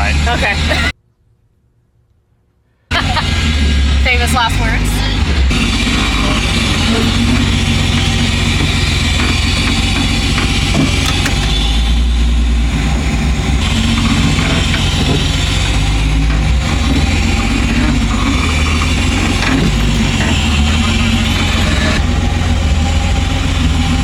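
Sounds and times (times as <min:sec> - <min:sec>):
vehicle engine running at low revs: 0:02.9 - 0:24.0.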